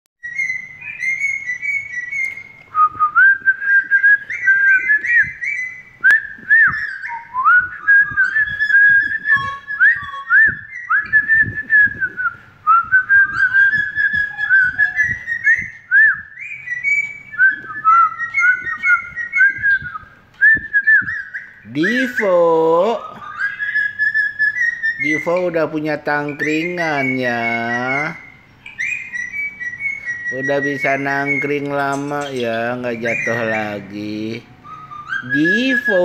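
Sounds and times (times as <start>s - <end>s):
cockatiel whistling: 0.2s - 36.0s.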